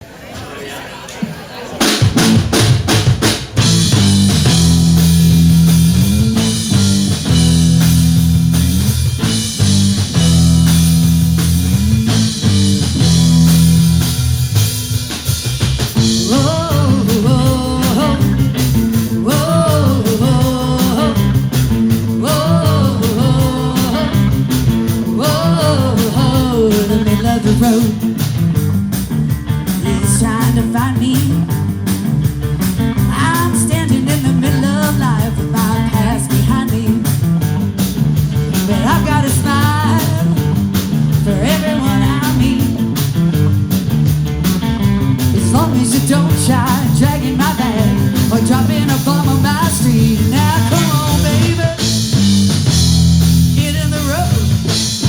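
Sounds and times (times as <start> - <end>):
drum kit: 1.2 - 55.0
electric guitar and bass riff: 2.2 - 55.0
lead guitar with bending notes: 3.6 - 55.0.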